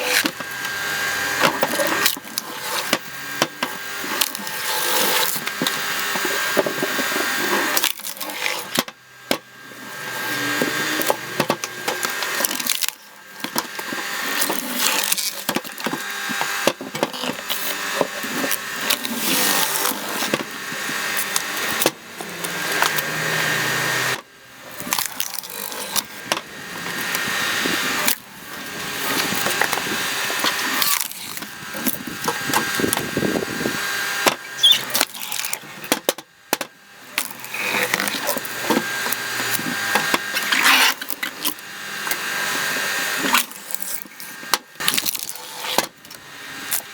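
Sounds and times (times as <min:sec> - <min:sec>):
wood cracking and splintering: 0:00.0 - 0:42.6, 0:43.2 - 0:46.9.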